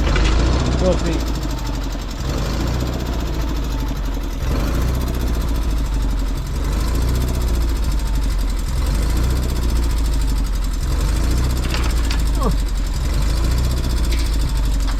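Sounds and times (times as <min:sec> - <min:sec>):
portable welder engine running: 0:00.0 - 0:14.9.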